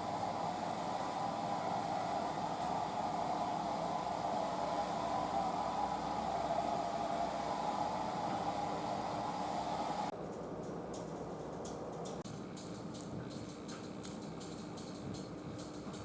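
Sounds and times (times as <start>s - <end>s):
steady whooshing air noise: 0.0s - 16.0s.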